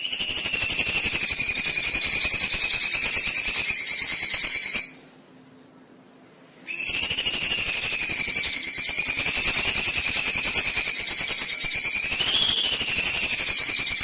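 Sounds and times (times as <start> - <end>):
songbird rapid trill: 0.0 - 5.1, 6.7 - 14.0.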